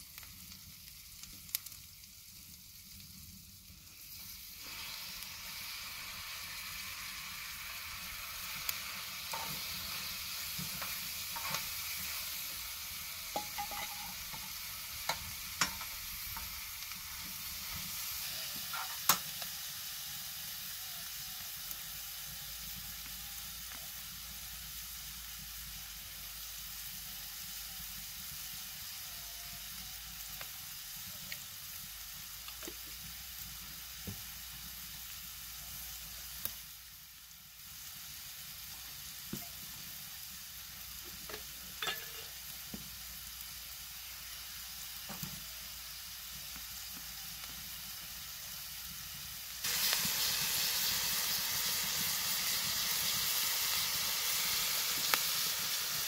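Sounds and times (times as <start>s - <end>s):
vegetables sizzling in a pan: 0.0s - 56.0s.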